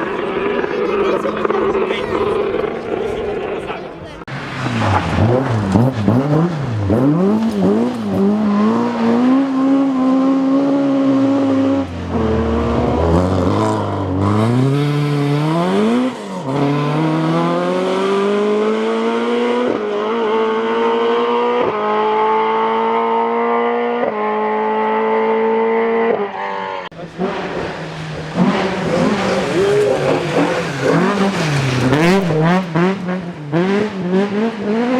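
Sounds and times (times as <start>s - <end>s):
rally car engine revving: 0.0s - 34.9s.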